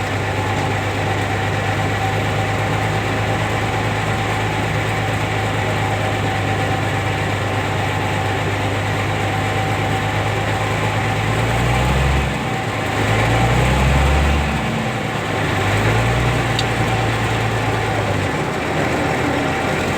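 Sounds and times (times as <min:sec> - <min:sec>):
bulldozer diesel engine running: 0:00.0 - 0:19.9.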